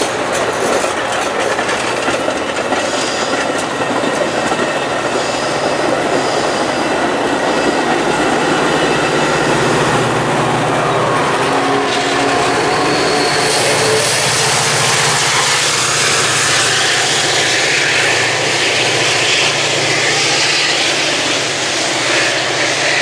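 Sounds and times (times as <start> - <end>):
diesel locomotive engine drone: 0.0 - 23.0
rush of passing train cars: 0.0 - 23.0.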